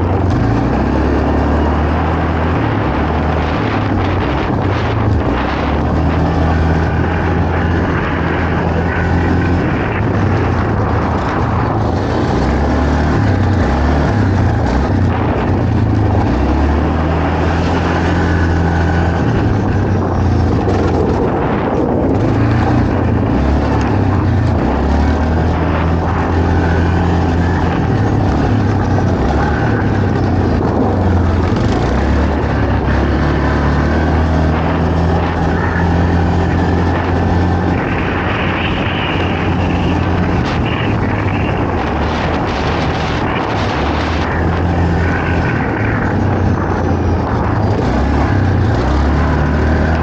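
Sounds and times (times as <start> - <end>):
atv engine running hard: 0.0 - 50.0
steady rush of noise: 0.0 - 50.0.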